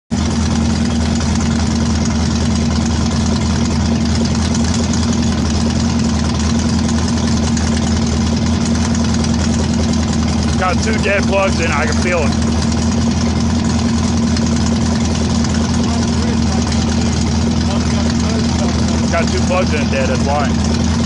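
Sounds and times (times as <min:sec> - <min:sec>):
car engine idling roughly: 0:00.1 - 0:21.0.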